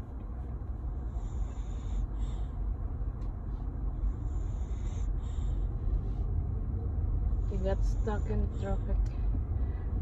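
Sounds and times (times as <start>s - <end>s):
car engine rumble: 0.0s - 10.0s
road noise: 0.0s - 10.0s.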